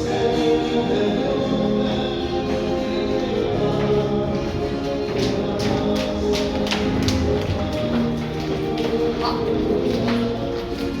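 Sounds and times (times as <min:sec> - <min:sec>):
song with singing: 0:00.0 - 0:11.0.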